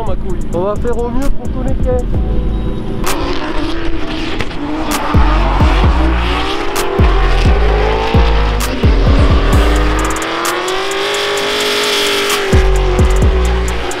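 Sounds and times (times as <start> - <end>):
car engines revving: 0.0 - 14.0
music with deep bass and beat: 0.0 - 14.0.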